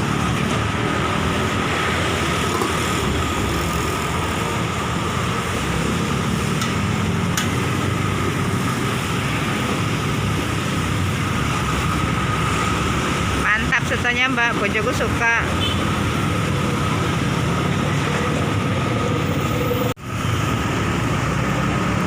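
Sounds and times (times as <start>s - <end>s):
roadside traffic rushing: 0.0s - 22.0s.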